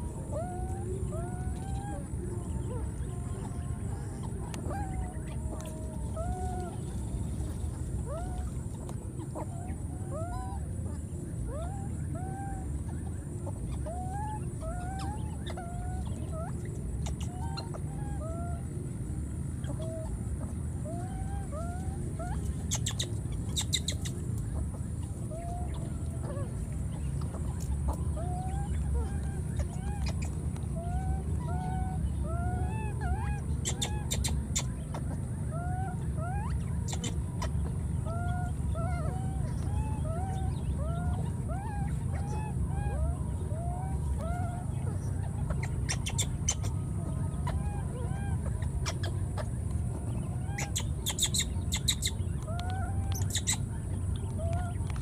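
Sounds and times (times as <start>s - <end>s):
baby monkey coo calls: 0.0s - 55.0s
steady low rumble: 0.0s - 55.0s.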